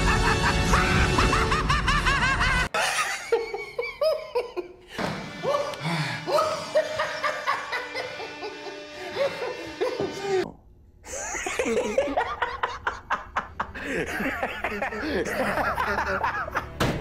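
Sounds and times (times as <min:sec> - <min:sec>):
man laughing slowly: 0:00.0 - 0:10.4, 0:11.1 - 0:16.8.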